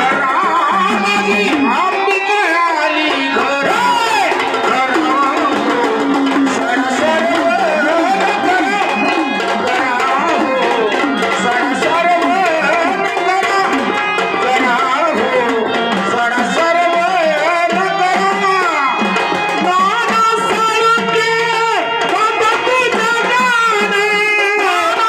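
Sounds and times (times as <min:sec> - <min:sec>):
folk hand drum rhythm: 0:00.0 - 0:25.0.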